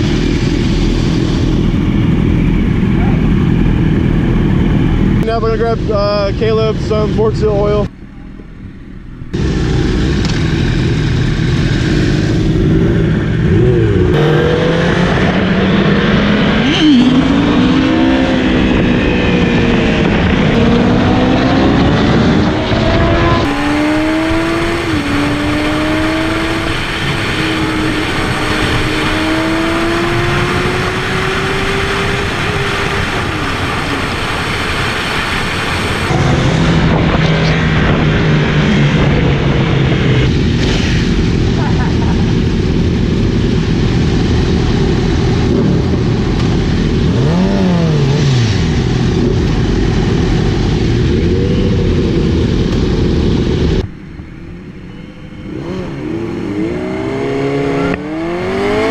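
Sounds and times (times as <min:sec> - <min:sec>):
motorcycle engine accelerating: 0:08.0 - 0:58.9.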